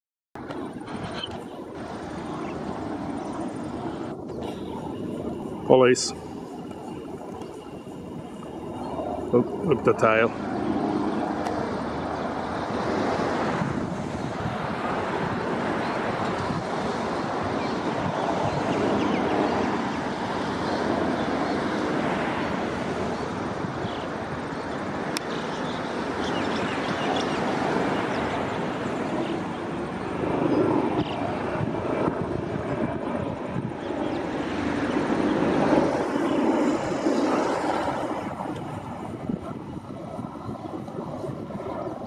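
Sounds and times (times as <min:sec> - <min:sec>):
helicopter flying overhead: 0:00.4 - 0:42.0.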